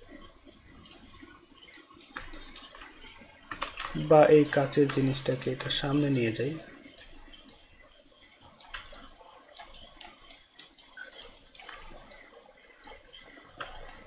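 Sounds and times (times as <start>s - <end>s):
computer mouse clicking: 0.8s - 6.3s, 6.9s - 7.7s, 8.6s - 14.0s.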